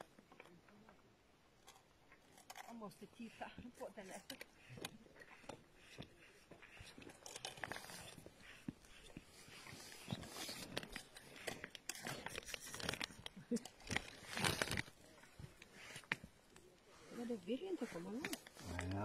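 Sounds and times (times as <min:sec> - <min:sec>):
clothing rustling: 0:03.2 - 0:19.0.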